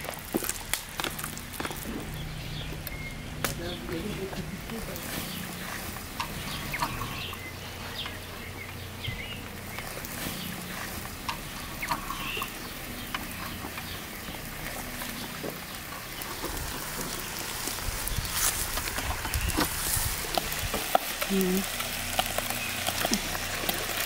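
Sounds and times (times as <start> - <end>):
low steady hum: 0.0 - 24.0
bird chirps: 1.1 - 23.8.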